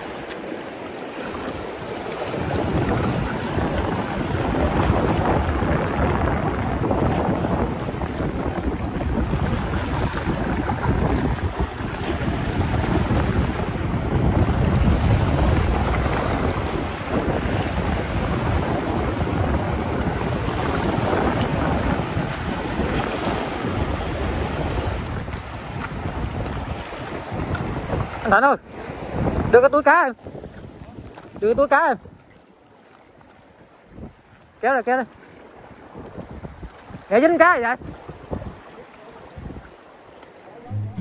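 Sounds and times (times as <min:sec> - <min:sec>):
wind buffeting microphone: 0:00.0 - 0:32.4, 0:33.8 - 0:34.4, 0:35.5 - 0:37.1, 0:37.7 - 0:39.8
surf on rocky shore: 0:00.0 - 0:41.0.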